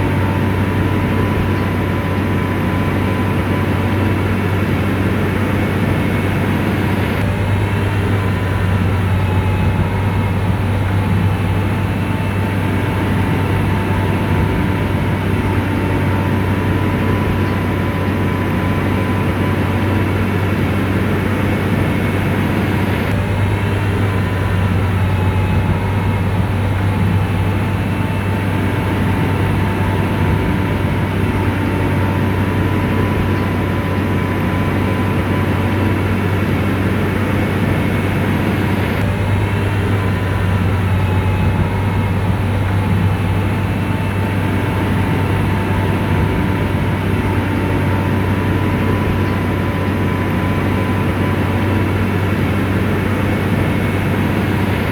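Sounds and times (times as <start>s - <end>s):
bulldozer diesel engine: 0.0s - 54.9s
faint steady whine: 0.0s - 54.9s.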